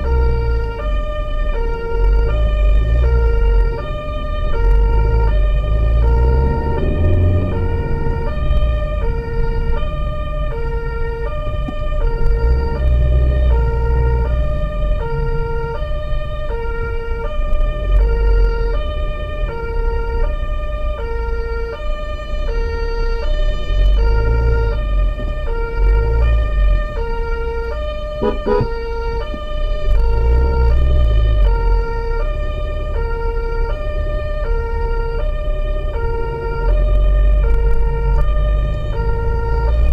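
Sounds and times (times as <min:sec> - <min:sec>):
engine and road rumble: 0:00.0 - 0:39.9
two-tone emergency siren: 0:00.0 - 0:39.9.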